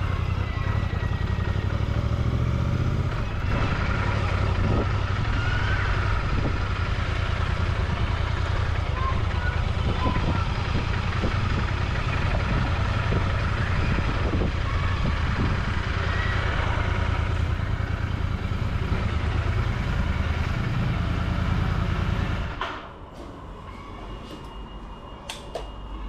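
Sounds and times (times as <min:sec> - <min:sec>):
motorcycle engine running at low revs: 0:00.0 - 0:22.6
city traffic: 0:00.0 - 0:26.0.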